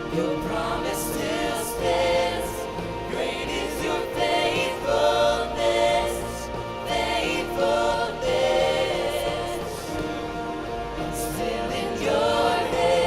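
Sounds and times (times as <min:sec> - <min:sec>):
group singing worship song: 0:00.0 - 0:13.0.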